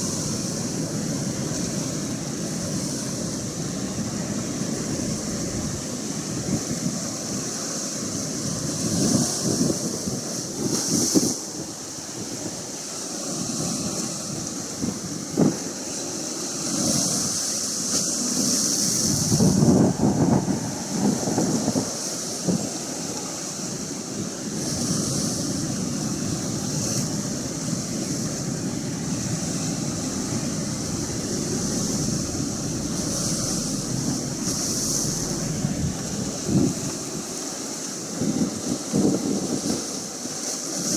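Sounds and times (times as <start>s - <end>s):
wind buffeting microphone: 0.0s - 15.8s, 18.4s - 23.0s, 24.4s - 40.0s
ocean waves breaking on shore: 0.0s - 40.9s.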